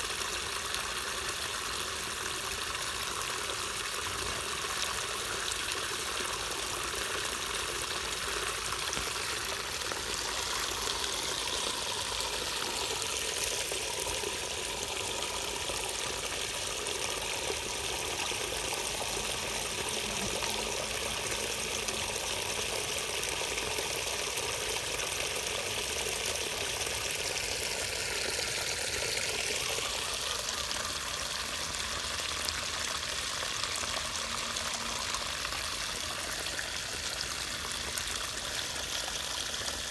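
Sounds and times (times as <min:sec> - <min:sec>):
water rushing through a drain: 0:00.0 - 0:39.9.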